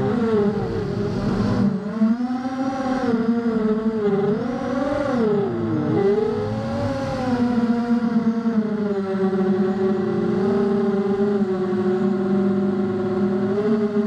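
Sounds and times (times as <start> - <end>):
drone motors buzzing whine: 0.0 - 14.0.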